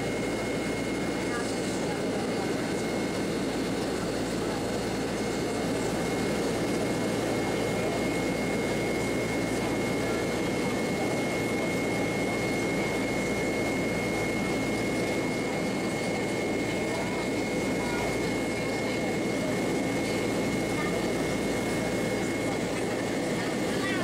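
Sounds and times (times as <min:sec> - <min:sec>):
jet engine roar in cabin: 0:00.0 - 0:24.0
thin steady whine: 0:00.0 - 0:24.0.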